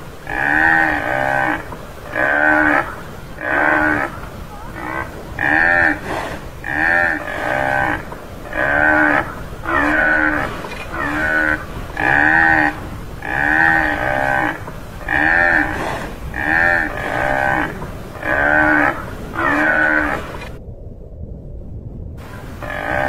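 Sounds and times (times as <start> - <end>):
buffalo moo-like calls: 0.2 - 20.6, 22.6 - 23.0.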